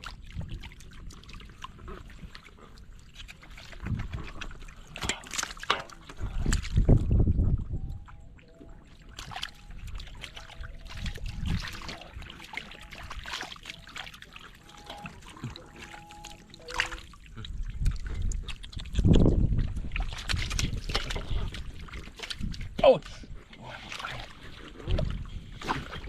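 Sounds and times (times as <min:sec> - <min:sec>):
shallow water splashing: 0:00.0 - 0:26.0.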